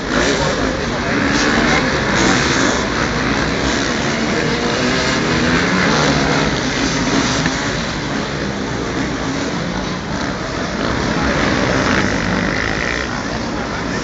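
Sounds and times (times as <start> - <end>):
motocross bike engines running: 0.0 - 14.0.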